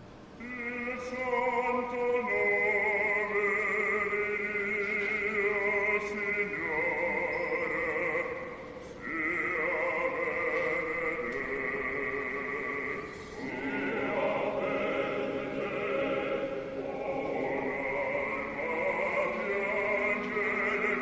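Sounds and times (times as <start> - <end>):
operatic singing with vibrato: 0.3 - 21.0.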